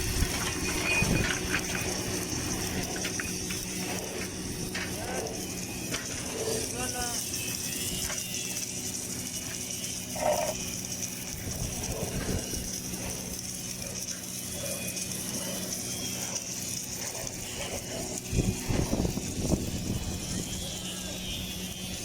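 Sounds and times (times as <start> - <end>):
welding equipment humming and hissing: 0.0 - 22.0.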